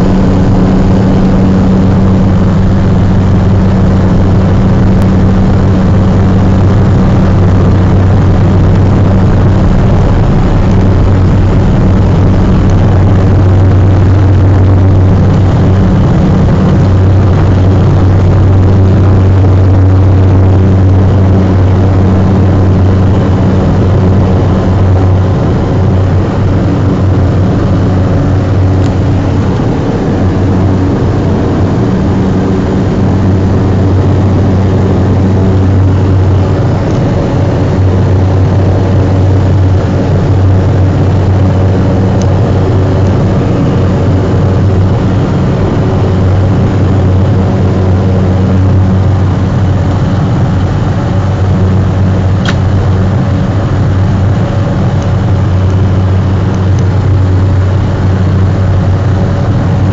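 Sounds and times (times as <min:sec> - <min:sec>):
turboprop engine drone in cockpit: 0:00.0 - 0:59.9.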